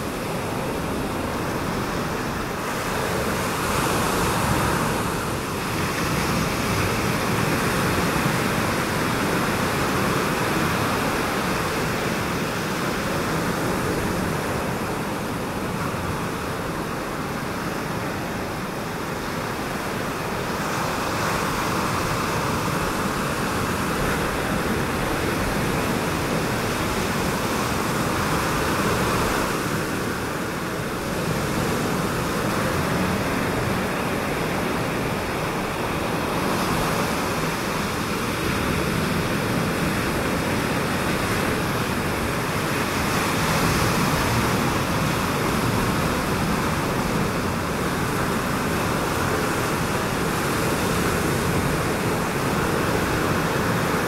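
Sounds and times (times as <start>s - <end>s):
distant ocean surf: 0.0s - 54.0s.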